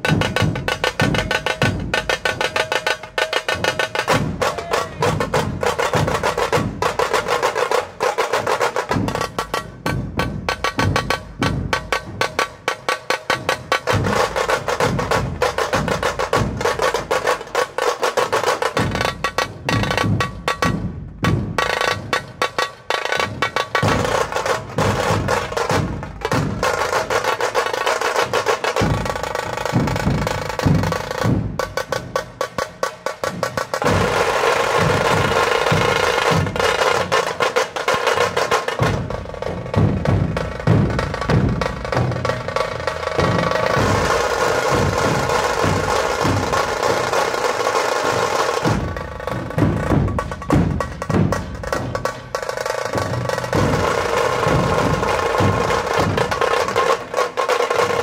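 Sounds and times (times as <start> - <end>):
deep drum beats: 0.0 - 58.0
snare drum fast strokes and rolls: 0.0 - 58.0.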